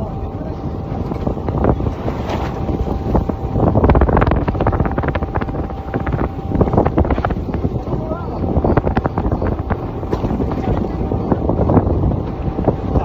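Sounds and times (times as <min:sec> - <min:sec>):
boat rumble: 0:00.0 - 0:13.0
wind buffeting microphone: 0:00.0 - 0:13.0.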